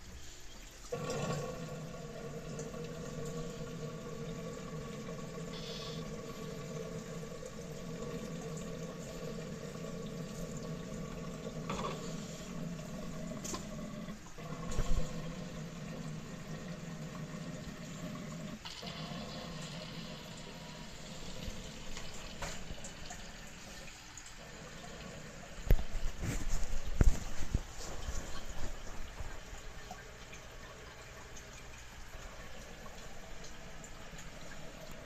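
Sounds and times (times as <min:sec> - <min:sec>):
water draining through tubing: 0:00.0 - 0:35.0.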